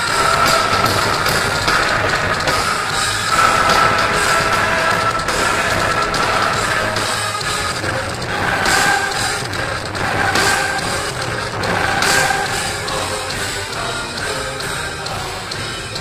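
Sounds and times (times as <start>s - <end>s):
crash cymbal ringing: 0.0s - 13.8s
rock drum kit solo: 0.0s - 16.0s.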